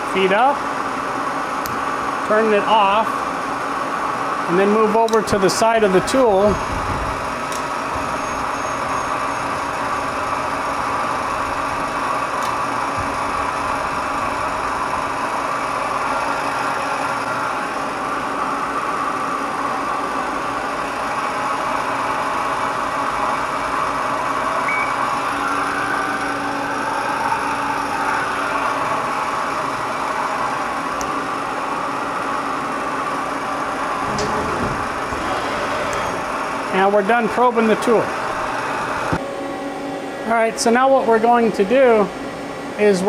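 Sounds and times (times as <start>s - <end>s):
high steady whine: 0.0s - 43.0s
lathe mechanical hum: 0.0s - 43.0s.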